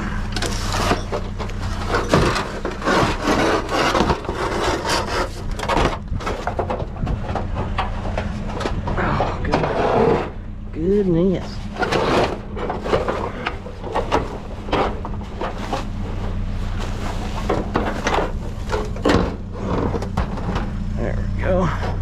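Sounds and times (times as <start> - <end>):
metal knocks and clatters: 0.0 - 10.5, 11.5 - 21.0
junk scraping in a dumpster: 0.0 - 22.0
low hum: 0.0 - 22.0.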